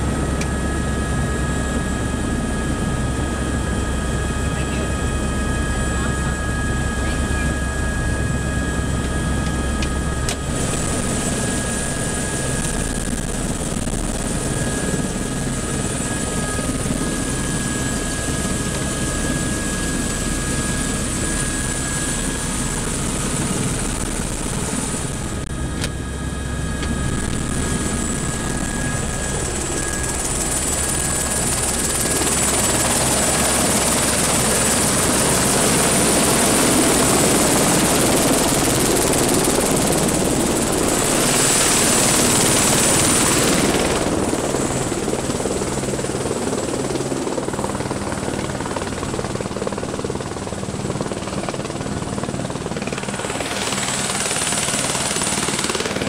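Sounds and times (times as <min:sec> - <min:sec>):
constant high whine: 0:00.0 - 0:56.0
helicopter engine and rotor: 0:00.0 - 0:56.0.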